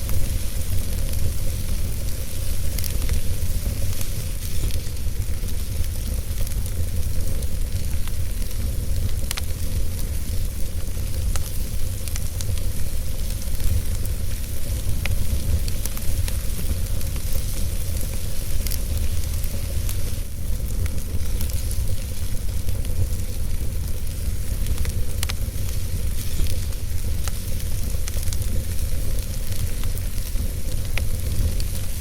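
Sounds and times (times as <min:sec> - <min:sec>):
fire crackles and pops: 0:00.0 - 0:32.0
flames rumbling and hissing: 0:00.0 - 0:32.0.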